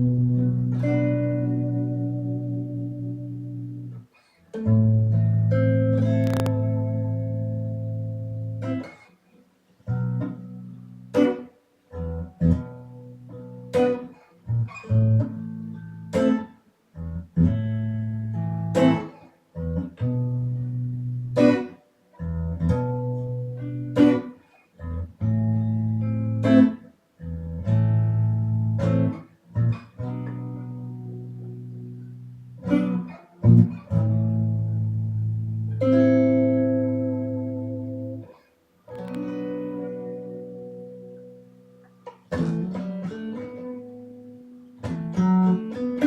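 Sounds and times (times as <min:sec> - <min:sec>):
electric guitar chords strummed: 0:00.0 - 0:09.0, 0:09.8 - 0:38.3, 0:38.9 - 0:46.0.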